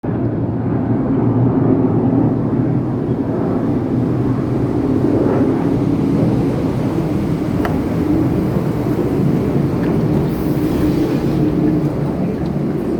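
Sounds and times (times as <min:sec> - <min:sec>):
road noise: 0:00.0 - 0:12.9
bus diesel engine droning: 0:01.5 - 0:12.9.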